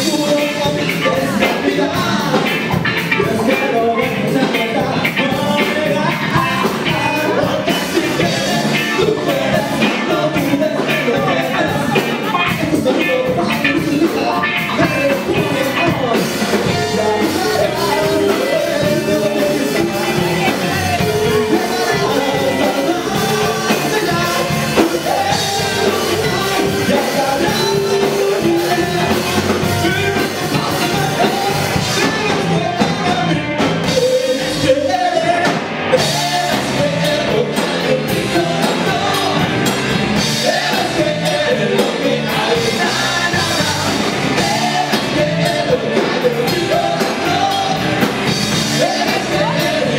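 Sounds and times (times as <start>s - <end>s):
man singing: 0.0s - 49.9s
rock band playing: 0.0s - 49.9s.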